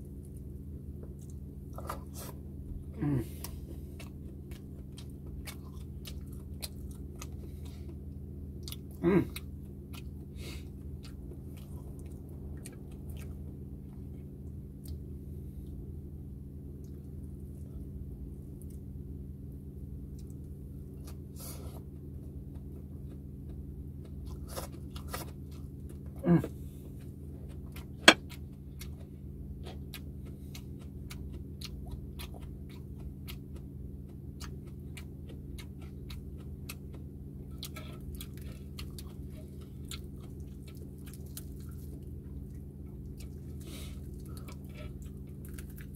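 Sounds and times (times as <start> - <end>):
chewing and crunching: 0.0 - 15.8, 16.7 - 19.0, 19.6 - 45.9
low hum: 0.0 - 45.9.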